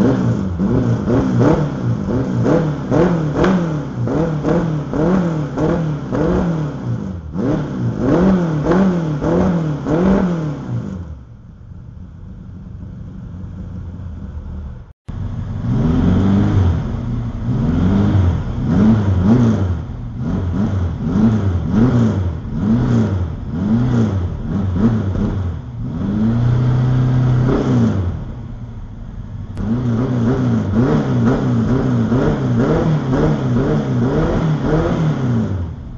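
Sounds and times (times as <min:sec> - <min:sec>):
car engine revving and idling: 0:00.0 - 0:35.9.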